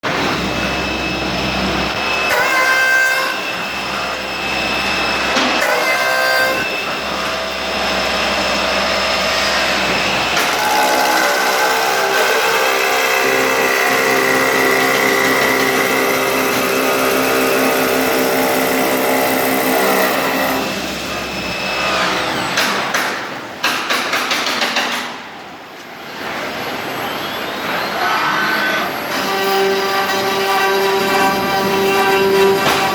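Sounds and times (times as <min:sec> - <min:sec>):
lathe motors whining: 0:00.1 - 0:22.6, 0:27.5 - 0:32.9.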